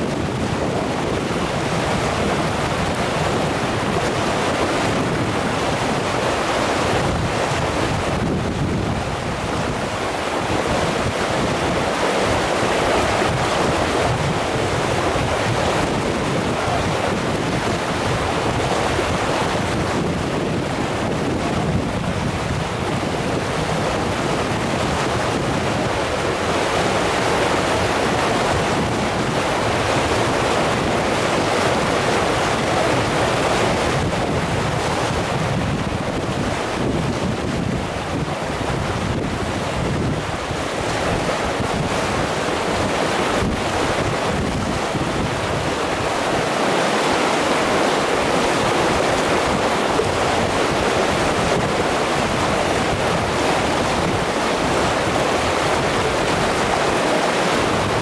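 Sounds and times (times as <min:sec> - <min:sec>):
river rapids roaring: 0:00.0 - 0:58.0.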